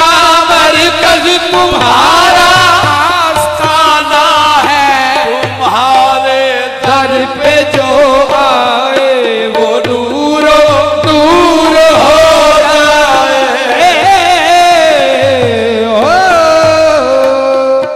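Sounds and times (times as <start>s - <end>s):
tabla rhythm: 0.0s - 17.9s.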